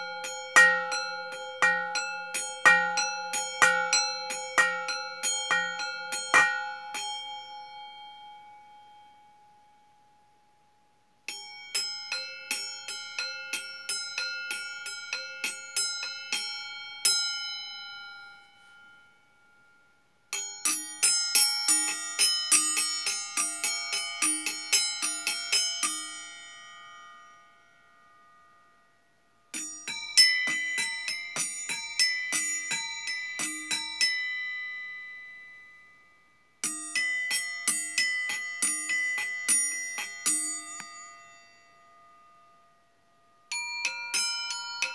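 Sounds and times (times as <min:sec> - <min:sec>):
steel bowls tapped ringing: 0:00.0 - 0:08.2, 0:11.3 - 0:19.1, 0:20.3 - 0:27.5, 0:29.5 - 0:35.8, 0:36.6 - 0:42.4, 0:43.5 - 0:44.9.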